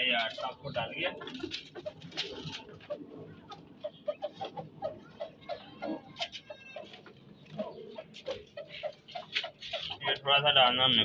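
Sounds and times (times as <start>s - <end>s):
chickens pecking grain: 0.0s - 11.0s.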